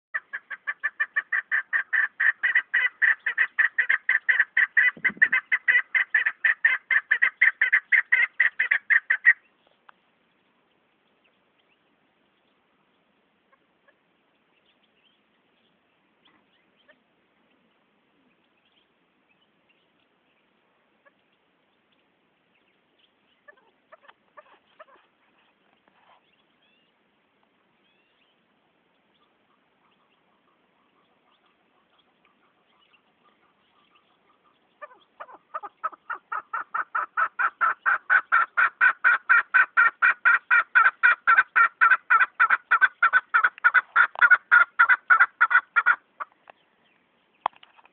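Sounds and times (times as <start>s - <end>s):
faint small noises: 0.1s - 47.9s.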